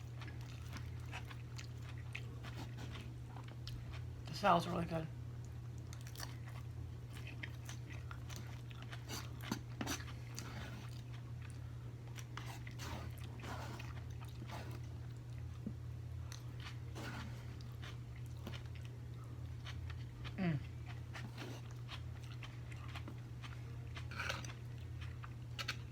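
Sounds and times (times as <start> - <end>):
person chewing crunchy food: 0.0 - 4.1, 5.4 - 25.9.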